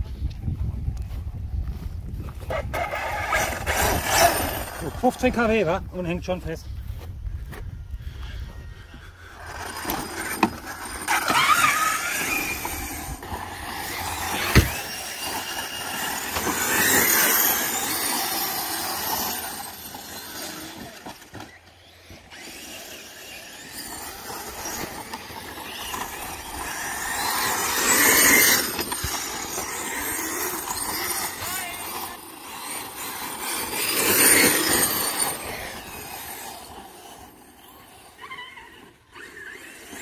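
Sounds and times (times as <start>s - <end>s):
electric motor whining: 2.4s - 6.0s, 7.4s - 40.0s.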